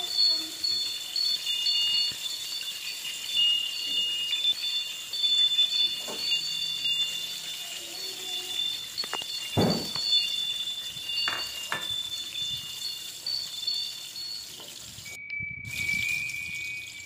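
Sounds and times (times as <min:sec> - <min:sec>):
eggplant sizzling in oil: 0:00.0 - 0:15.2
high-pitched tones: 0:00.0 - 0:17.0.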